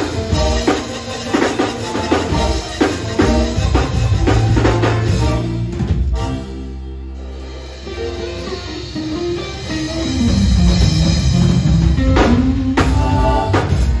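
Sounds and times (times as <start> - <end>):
electric bass run: 0.0 - 14.0
live band playing: 0.0 - 14.0.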